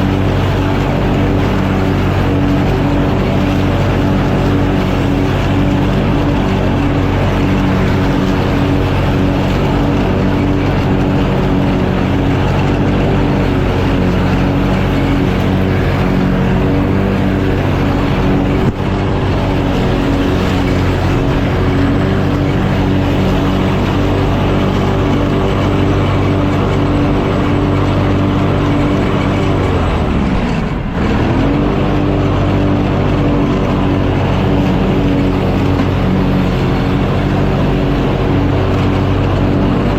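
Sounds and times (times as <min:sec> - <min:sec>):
mowing machine engine running: 0:00.0 - 0:39.9.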